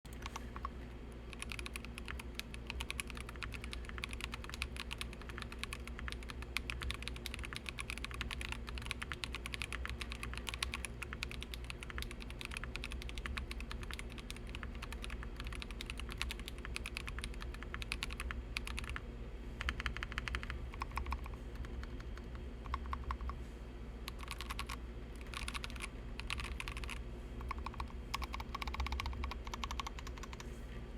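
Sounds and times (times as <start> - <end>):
steady low hum: 0.1 - 30.9
mechanical keyboard typing: 1.3 - 19.0, 19.6 - 23.4, 24.1 - 30.4.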